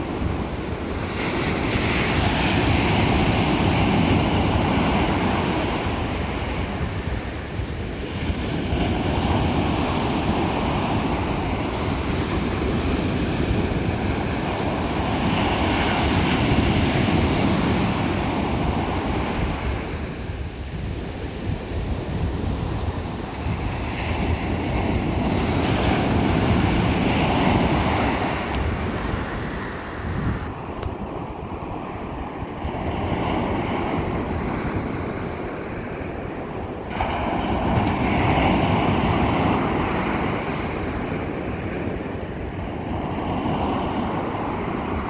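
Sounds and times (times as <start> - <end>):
ocean surf breaking on beach: 0.0 - 45.0.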